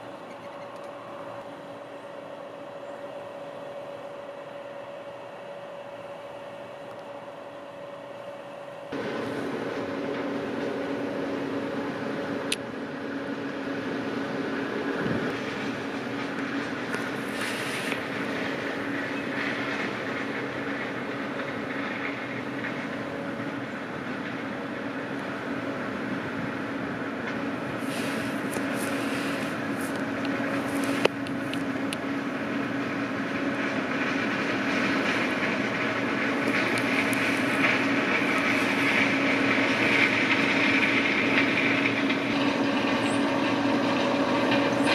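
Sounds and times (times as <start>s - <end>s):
machinery engine droning: 0.0s - 44.9s.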